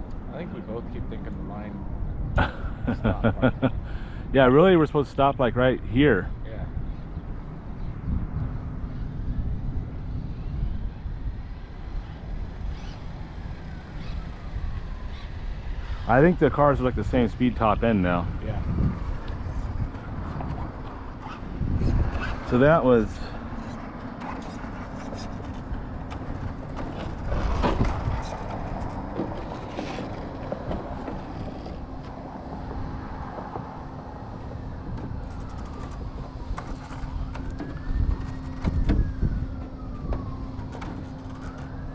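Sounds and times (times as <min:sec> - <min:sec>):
wind buffeting microphone: 0:00.0 - 0:41.9
vehicle passing by: 0:07.4 - 0:41.9.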